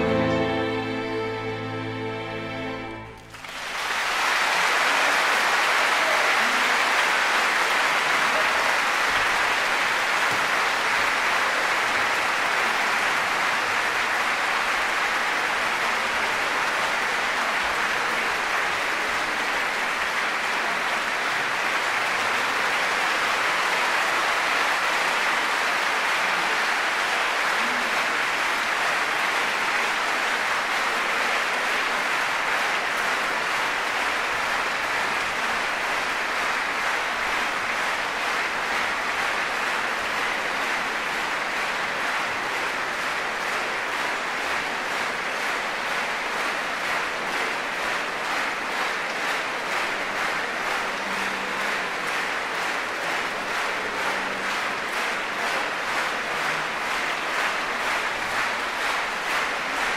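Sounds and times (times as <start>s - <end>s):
audience applauding: 0.0s - 59.9s
rhythmic clapping: 3.1s - 59.9s.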